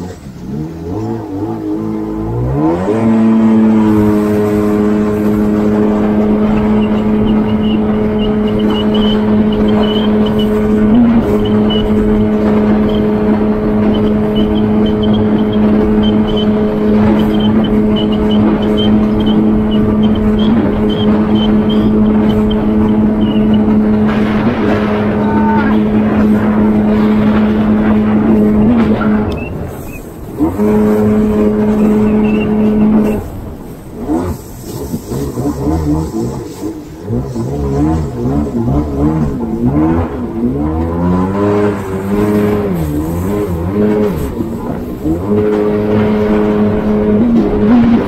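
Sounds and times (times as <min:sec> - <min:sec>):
jet ski engine: 0:00.0 - 0:48.0.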